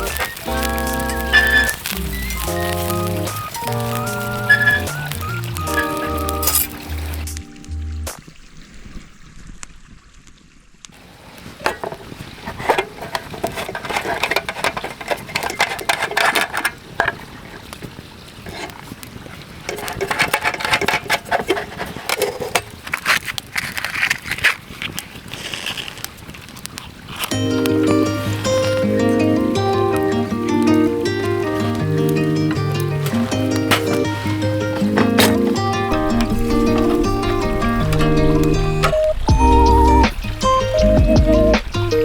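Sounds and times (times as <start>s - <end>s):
pot bubbling at a simmer: 0.0s - 10.0s, 10.9s - 42.0s
campfire pops and crackles: 0.0s - 42.0s.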